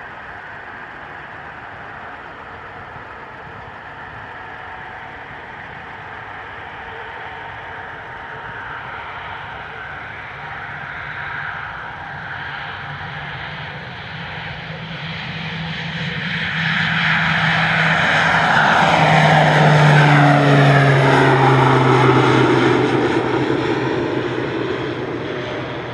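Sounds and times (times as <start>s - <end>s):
turboprop plane passing: 0.0s - 25.9s.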